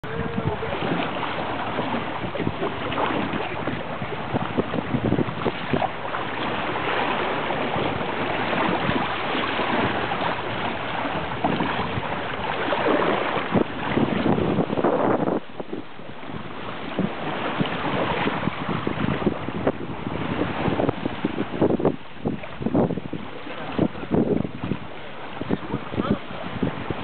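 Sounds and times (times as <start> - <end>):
water splashing along hulls: 0.0 - 27.0
wind buffeting microphone: 0.0 - 27.0.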